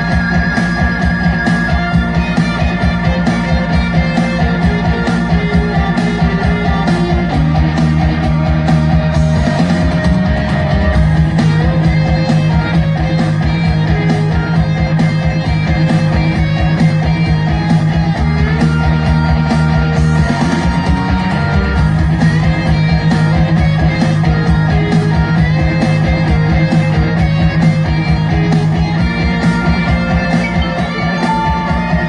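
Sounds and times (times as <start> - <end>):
rock music with guitar and drums: 0.0 - 32.0.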